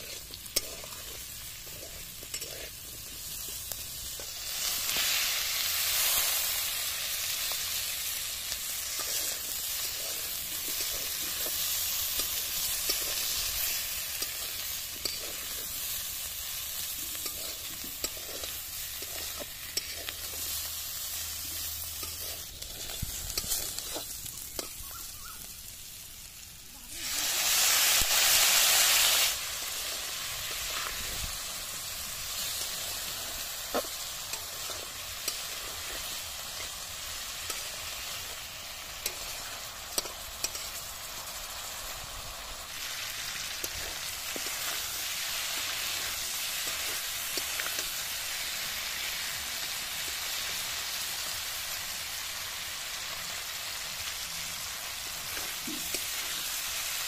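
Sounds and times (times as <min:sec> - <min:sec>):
pork sizzling in a wok: 0:00.0 - 0:57.0
water hissing in a hot wok: 0:00.0 - 0:57.0.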